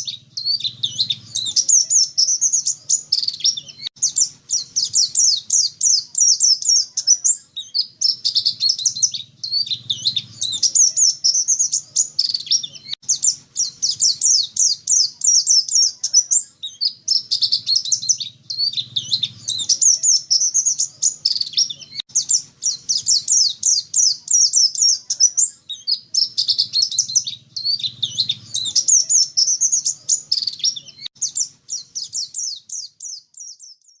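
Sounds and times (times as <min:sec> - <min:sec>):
bird twittering song: 0:00.0 - 0:34.0.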